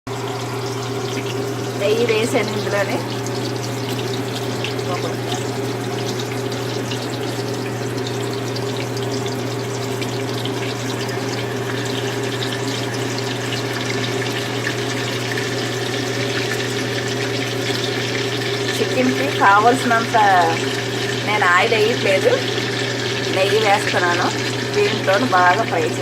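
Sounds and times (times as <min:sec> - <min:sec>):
ghee crackling in a pan: 0:00.2 - 0:26.0.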